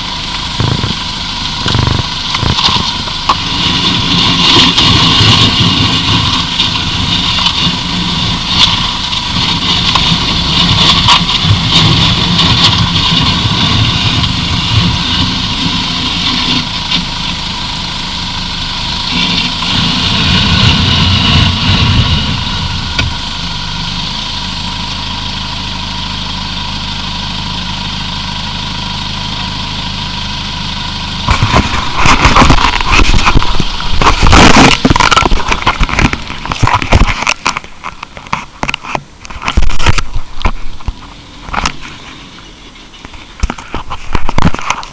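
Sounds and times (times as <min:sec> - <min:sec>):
loud crackling noise: 0:00.0 - 0:27.4, 0:28.1 - 0:44.9
car engine idling: 0:00.0 - 0:44.9.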